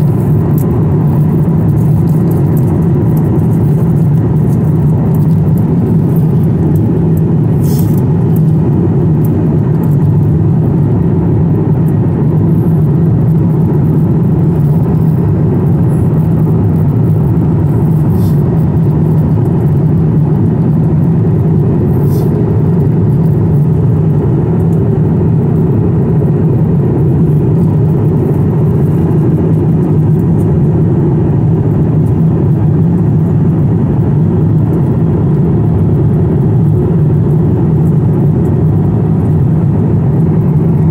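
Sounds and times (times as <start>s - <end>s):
airliner cabin engine roar: 0.0s - 40.9s.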